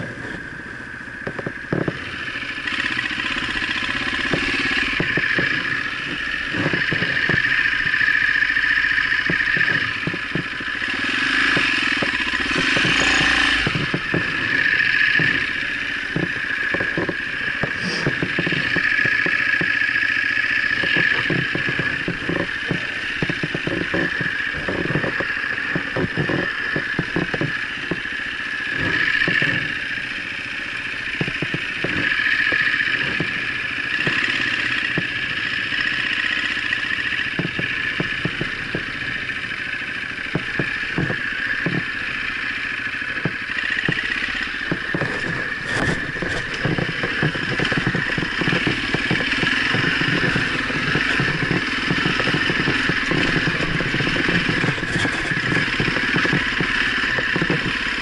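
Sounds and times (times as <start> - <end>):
motorcycle engine running: 0.0 - 58.0
motorcycle knocks and clatter: 0.0 - 58.0.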